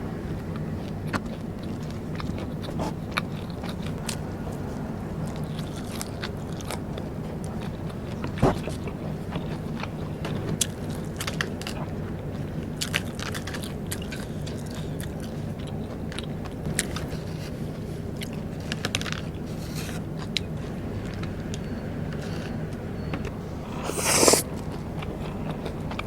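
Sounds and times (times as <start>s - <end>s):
chewing and crunching rice crackers: 0.1s - 22.8s, 23.9s - 26.0s.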